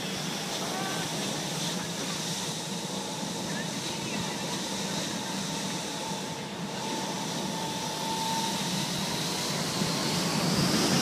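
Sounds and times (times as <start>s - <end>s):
jet engines spooling up: 0.0s - 11.0s.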